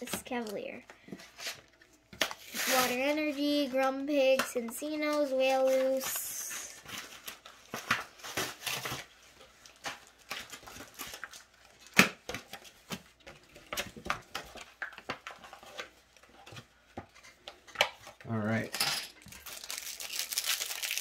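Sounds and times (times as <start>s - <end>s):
cards and wrappers rustling: 0.0s - 21.0s.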